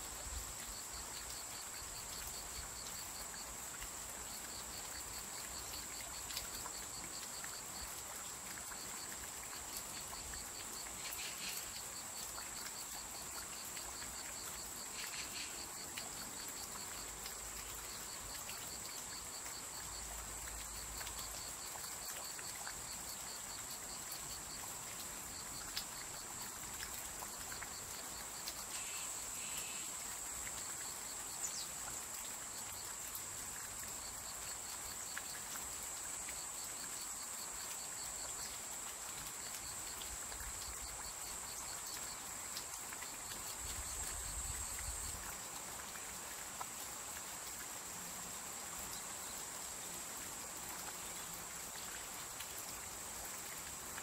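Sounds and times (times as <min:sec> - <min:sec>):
crickets chorus: 0:00.0 - 0:54.0
soft hiss: 0:00.0 - 0:54.0.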